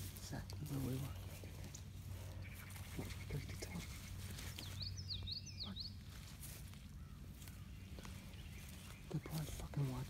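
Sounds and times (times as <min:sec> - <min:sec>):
footsteps on wet ground: 0:00.0 - 0:10.0.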